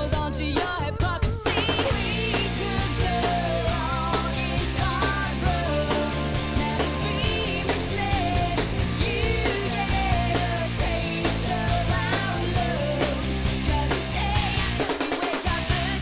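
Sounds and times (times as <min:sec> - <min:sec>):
grunge rock band playing: 0:01.4 - 0:16.0.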